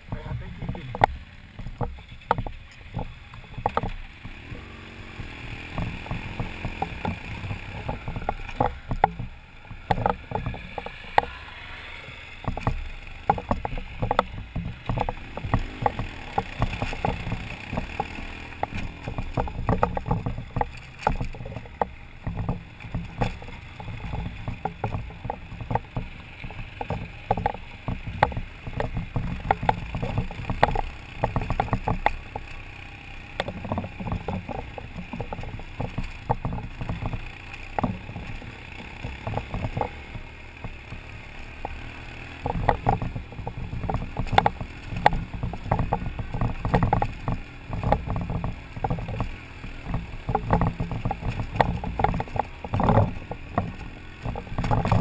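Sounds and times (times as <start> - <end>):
knocks and rattles over rocks: 0.0 - 55.0
motorcycle engine running: 0.0 - 55.0.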